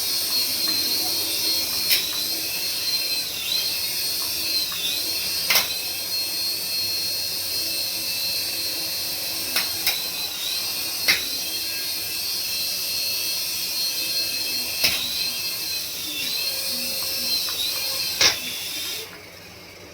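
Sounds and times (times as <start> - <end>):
small electric motor whining: 0.0 - 19.9.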